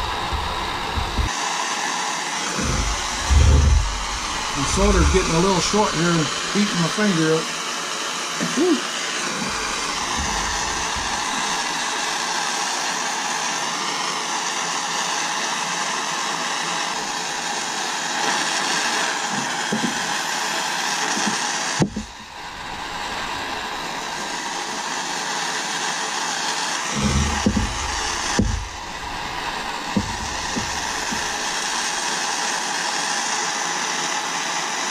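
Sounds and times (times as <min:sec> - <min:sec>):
gas torch flame hissing: 0:00.0 - 0:34.9.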